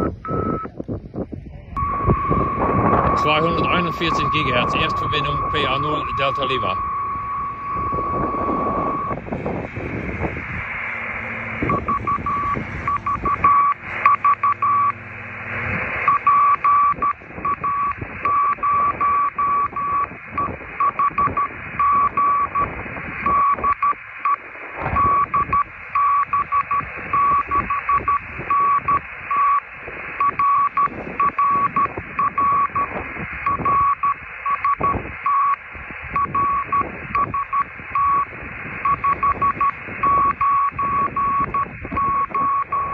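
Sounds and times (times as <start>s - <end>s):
morse code tone beeping: 0.0s - 0.7s, 1.8s - 9.2s, 11.6s - 15.0s, 16.0s - 29.6s, 30.2s - 32.9s, 33.5s - 35.6s, 36.2s - 42.9s
receiver hiss: 0.0s - 42.9s.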